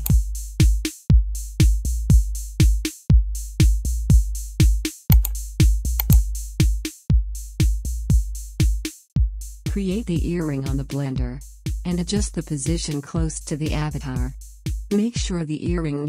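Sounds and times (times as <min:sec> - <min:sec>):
electronic music with drum beat: 0:00.0 - 0:16.0.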